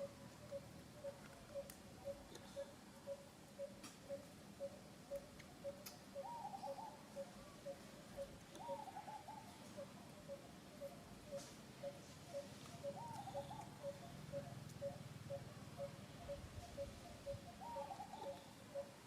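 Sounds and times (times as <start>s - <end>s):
short low bird calls: 0.0s - 19.0s
wavering bird calls: 0.0s - 19.0s.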